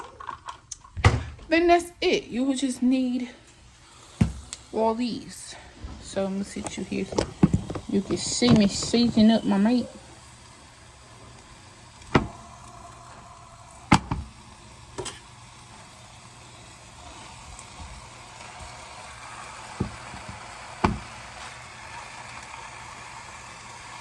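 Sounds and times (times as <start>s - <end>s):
meat sizzling in a pot: 1.6s - 24.0s.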